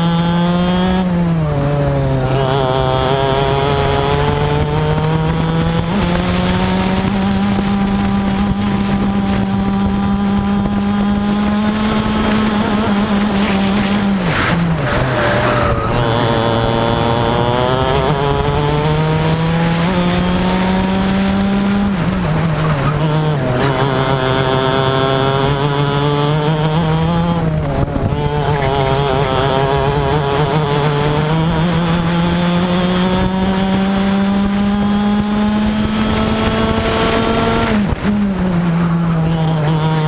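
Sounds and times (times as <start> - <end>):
kart engine at full throttle: 0.0 - 40.0.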